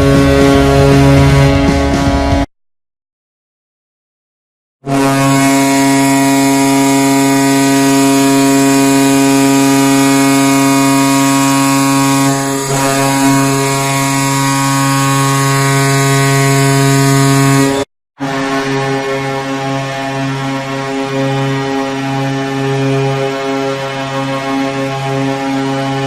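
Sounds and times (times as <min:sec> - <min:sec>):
goal horn low steady note: 0:00.0 - 0:02.5, 0:04.8 - 0:26.0.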